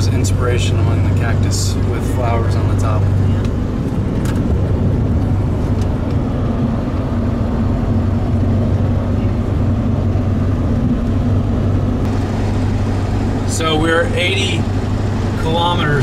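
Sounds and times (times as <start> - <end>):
low engine drone: 0.0 - 16.0
road and tyre noise: 0.0 - 16.0.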